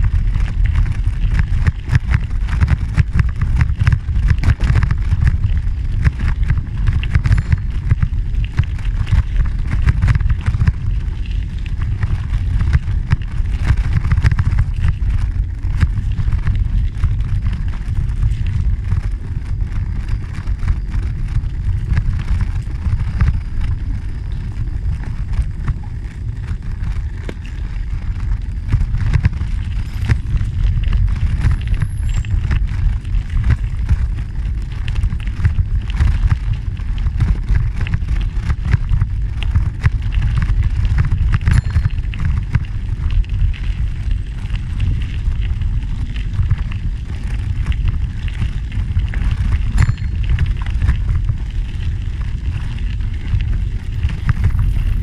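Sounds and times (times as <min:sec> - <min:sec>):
tyres crackling over gravel: 0:00.0 - 0:55.0
wind on microphone: 0:00.0 - 0:55.0.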